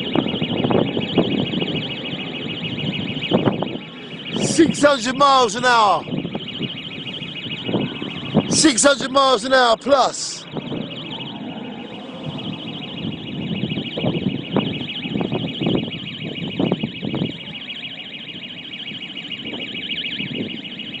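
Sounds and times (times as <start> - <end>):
pulsing electronic alarm: 0.0 - 21.0.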